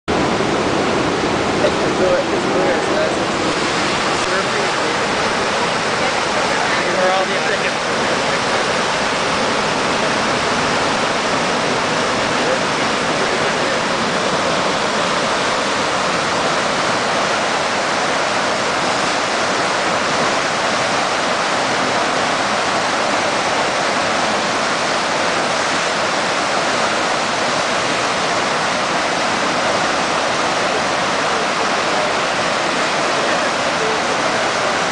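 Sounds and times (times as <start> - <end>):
whitewater rushing: 0.1 - 34.9.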